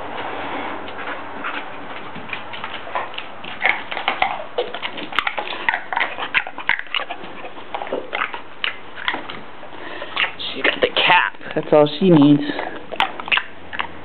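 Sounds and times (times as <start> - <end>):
dog chewing plastic jug: 0.9 - 14.0.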